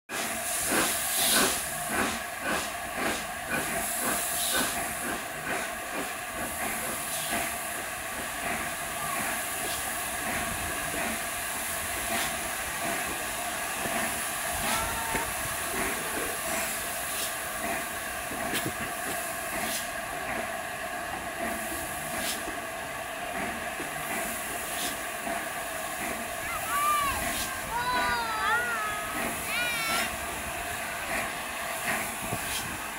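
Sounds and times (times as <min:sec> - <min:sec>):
steam hissing: 0:00.1 - 0:32.9
steam locomotive exhaust beats: 0:00.1 - 0:32.9.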